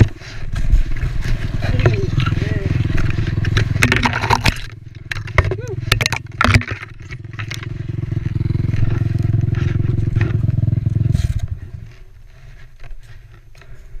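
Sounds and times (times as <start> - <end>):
motorcycle engine idling: 1.0 - 12.3.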